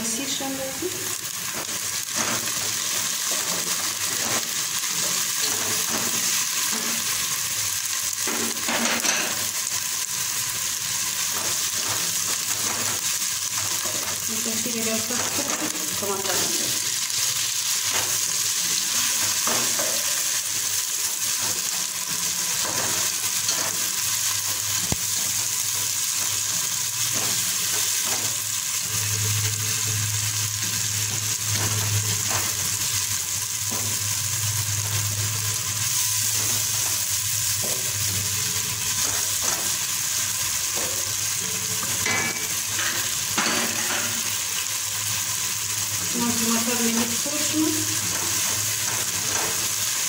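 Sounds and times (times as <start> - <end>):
vegetables sizzling in hot oil: 0.0 - 50.0.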